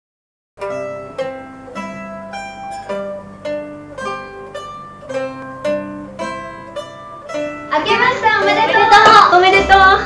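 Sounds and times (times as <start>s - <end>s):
mandolin ensemble playing: 0.6s - 10.0s.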